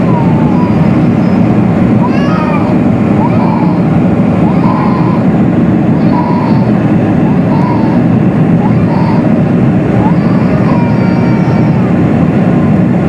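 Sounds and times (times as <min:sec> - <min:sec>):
airliner engine and airflow noise: 0:00.0 - 0:13.0.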